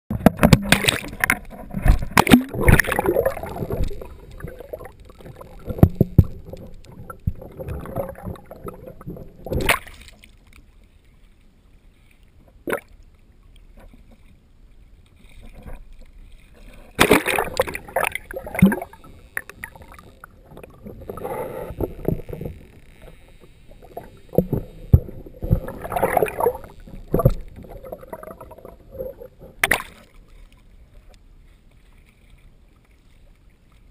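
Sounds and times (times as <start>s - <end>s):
sea water splashing and gurgling: 0.1s - 33.9s.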